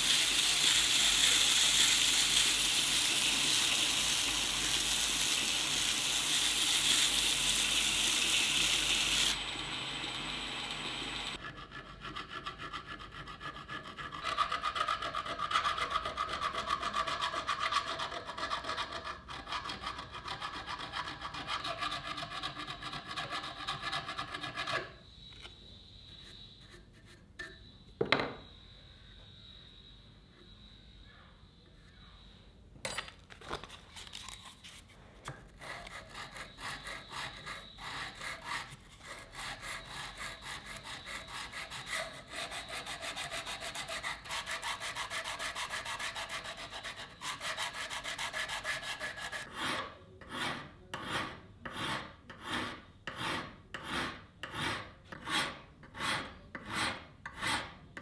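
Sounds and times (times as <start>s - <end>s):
hand file rasping on steel: 0.0s - 25.0s, 34.7s - 58.0s.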